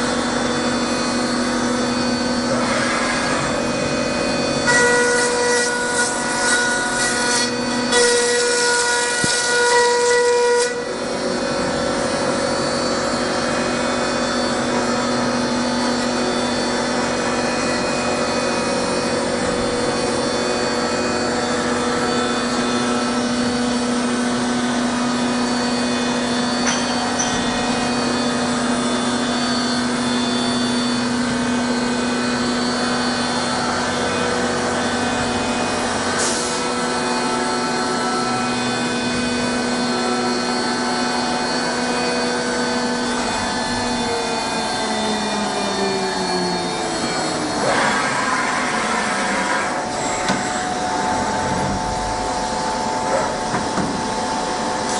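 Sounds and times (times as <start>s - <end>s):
milling machine hum: 0.0s - 54.9s.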